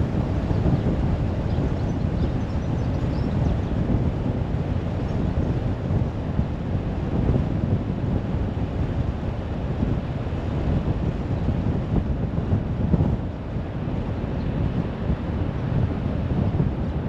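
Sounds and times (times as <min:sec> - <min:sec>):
tyre and wind noise: 0:00.0 - 0:17.0.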